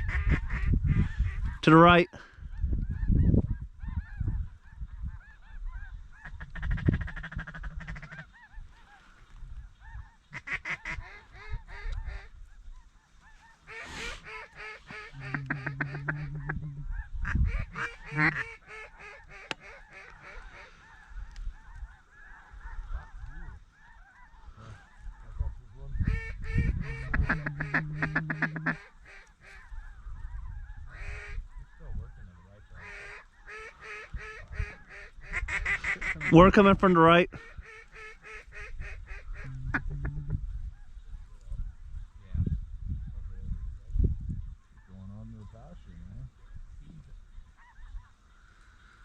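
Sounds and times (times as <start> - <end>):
geese honking: 0.0 - 2.2, 2.9 - 41.0, 44.6 - 49.0
ducks quacking: 0.0 - 41.6, 44.6 - 49.0
wind rumbling on microphone: 0.0 - 48.2.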